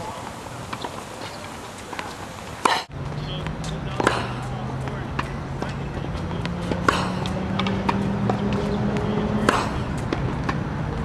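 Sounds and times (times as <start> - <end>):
racket striking tennis ball: 1.8 - 11.0
ball bouncing: 1.9 - 11.0.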